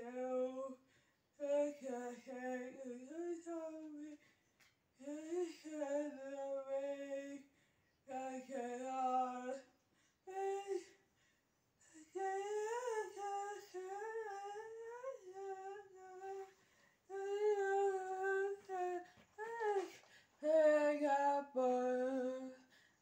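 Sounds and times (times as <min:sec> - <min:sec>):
girl singing: 0:00.0 - 0:00.8, 0:01.4 - 0:04.2, 0:05.0 - 0:07.5, 0:08.1 - 0:11.0, 0:11.8 - 0:22.8.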